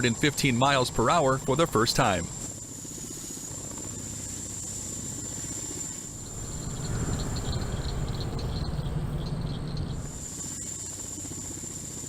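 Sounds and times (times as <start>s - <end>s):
helicopter rotor beat with whine: 0.0s - 12.0s.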